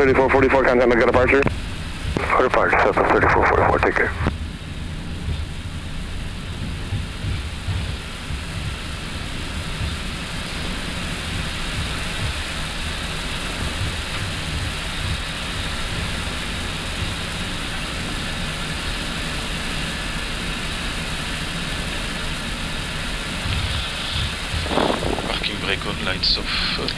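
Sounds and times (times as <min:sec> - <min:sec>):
air-conditioning airflow hiss: 0:00.0 - 0:26.9
idling jet engines rumbling: 0:00.0 - 0:26.9.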